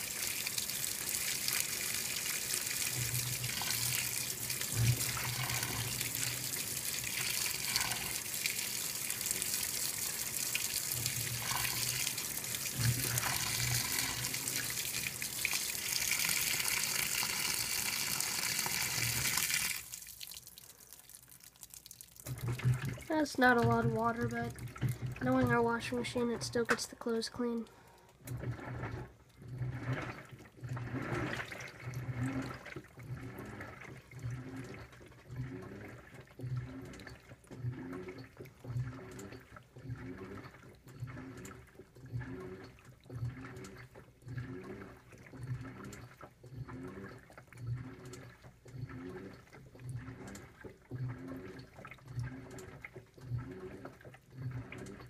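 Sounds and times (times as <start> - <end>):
washing machine motor whining: 0.0 - 20.0, 22.3 - 27.6, 28.2 - 55.0.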